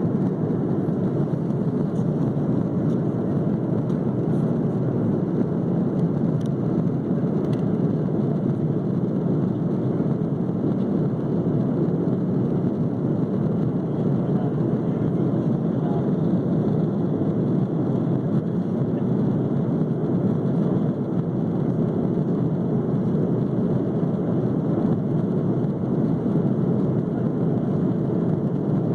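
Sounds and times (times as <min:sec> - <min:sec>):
airliner cabin noise: 0:00.0 - 0:28.9.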